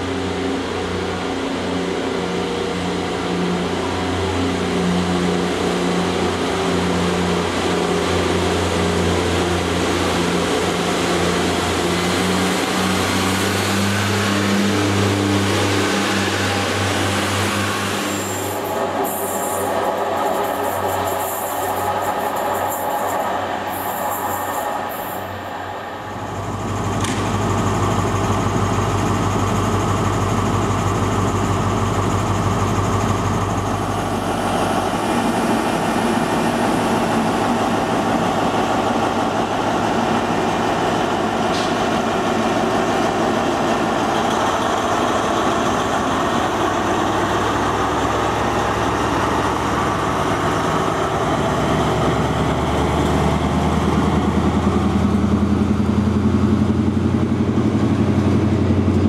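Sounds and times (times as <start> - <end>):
diesel train engine humming: 0.0 - 59.0.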